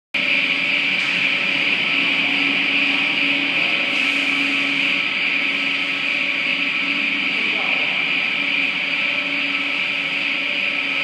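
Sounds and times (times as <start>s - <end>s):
rail cart mechanical whir: 0.2s - 11.0s
wheels rolling on track: 0.2s - 11.0s.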